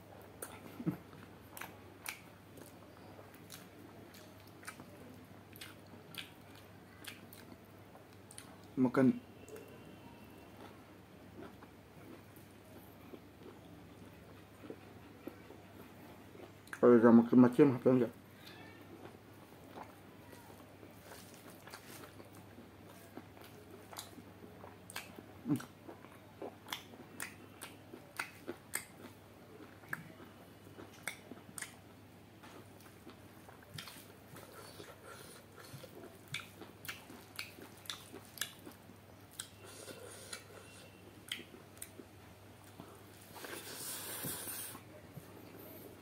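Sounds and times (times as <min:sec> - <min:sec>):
chewing with wet smacks: 0:00.3 - 0:08.8, 0:10.5 - 0:17.0, 0:18.4 - 0:45.3.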